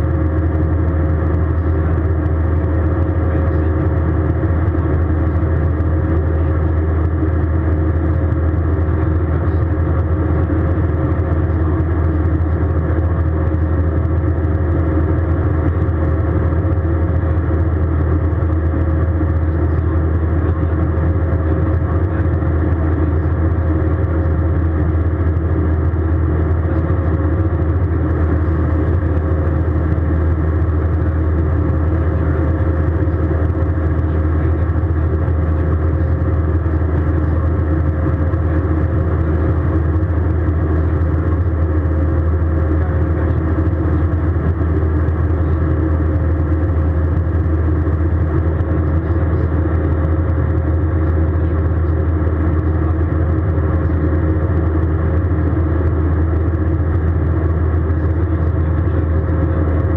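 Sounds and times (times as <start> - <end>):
airliner cabin engine drone: 0.0 - 59.9
faint steady hum: 0.0 - 59.9.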